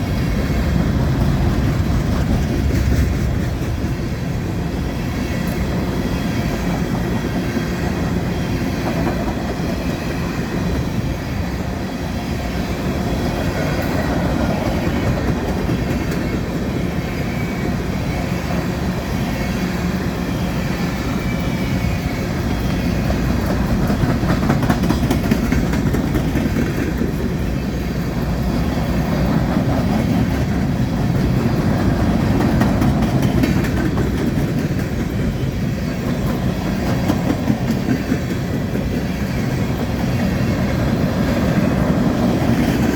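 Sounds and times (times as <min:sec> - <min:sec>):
steel wheels clattering over rail joints: 0:00.0 - 0:11.8, 0:12.4 - 0:42.9
train cars rumbling: 0:00.0 - 0:42.9.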